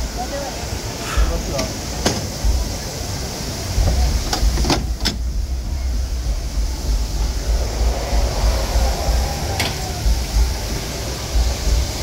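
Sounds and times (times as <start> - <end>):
steady low rumble: 0.7 - 12.0.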